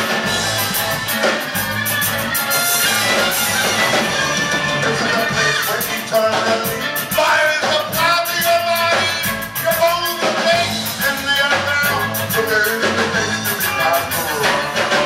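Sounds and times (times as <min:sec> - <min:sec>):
drum kit: 0:00.0 - 0:15.0
person singing: 0:02.8 - 0:15.0.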